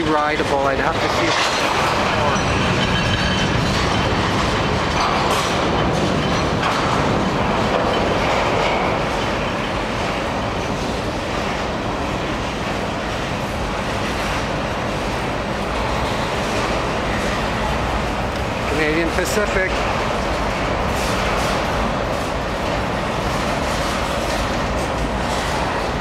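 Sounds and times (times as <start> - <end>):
train wheels clacking on rails: 0.0 - 26.0.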